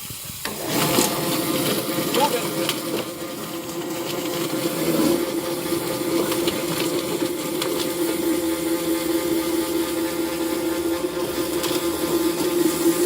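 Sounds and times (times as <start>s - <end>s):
water spray: 0.0s - 13.0s
plucking machine motor hum: 0.4s - 13.0s.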